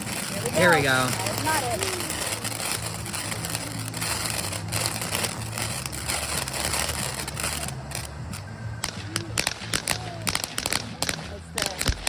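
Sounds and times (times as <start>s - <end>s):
firework crackling and fizzing: 0.0s - 12.0s.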